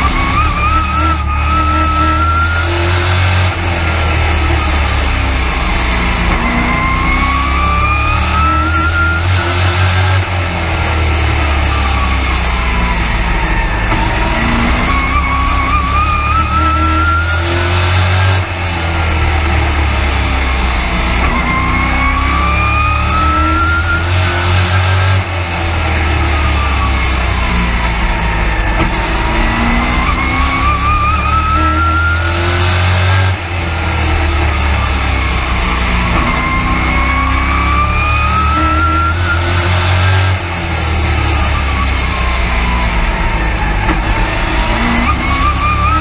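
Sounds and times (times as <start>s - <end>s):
rising drivetrain whine: 0.0s - 46.0s
truck engine low rumble: 0.0s - 46.0s.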